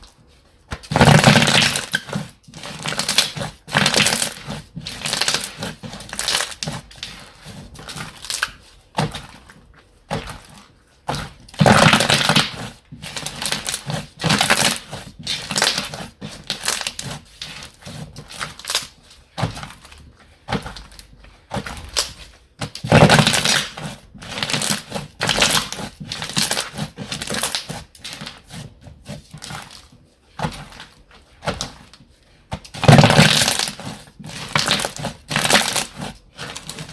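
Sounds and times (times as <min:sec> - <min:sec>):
hands squeezing slime: 0:00.0 - 0:36.9.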